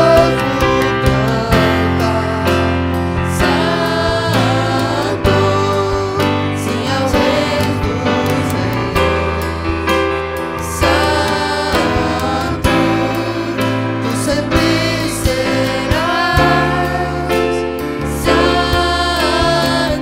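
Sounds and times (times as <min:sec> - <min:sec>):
women singing: 0:00.0 - 0:02.7, 0:03.3 - 0:20.0
worship band playing: 0:00.0 - 0:20.0
drum hits: 0:03.4 - 0:19.8.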